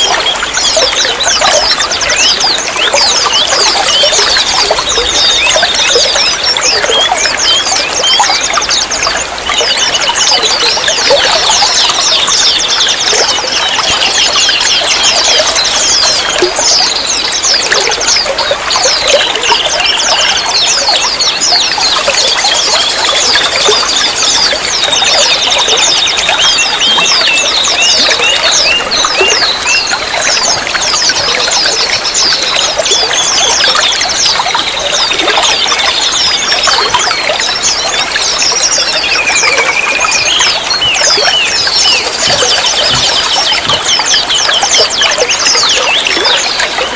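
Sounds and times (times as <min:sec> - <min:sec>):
songbirds chirping and trilling: 0:00.0 - 0:46.9
water trickling: 0:00.0 - 0:46.9.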